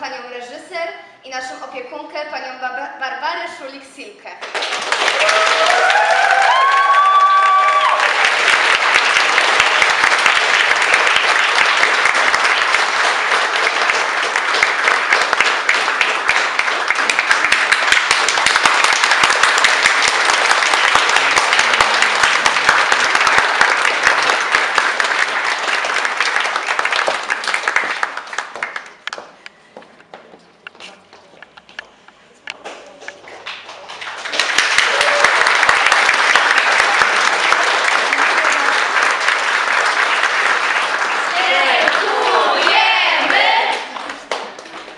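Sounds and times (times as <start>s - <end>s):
audience applauding: 4.4s - 29.6s, 32.6s - 44.9s.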